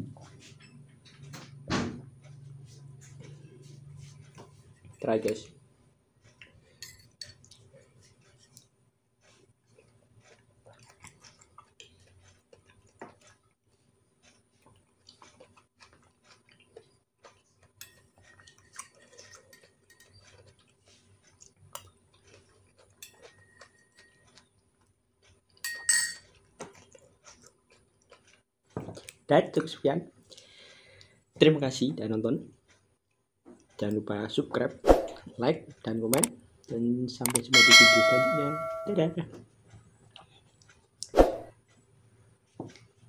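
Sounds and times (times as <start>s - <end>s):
soft chewing: 0.1s - 1.6s, 2.2s - 31.5s, 32.3s - 34.6s, 39.4s - 43.0s.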